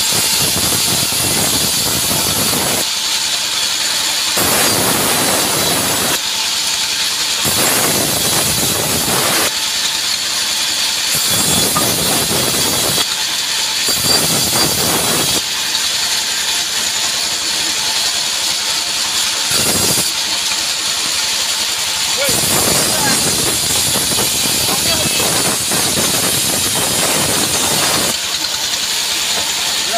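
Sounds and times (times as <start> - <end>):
band saw hissing: 0.0 - 29.9
saw blade cutting wood: 0.0 - 29.9.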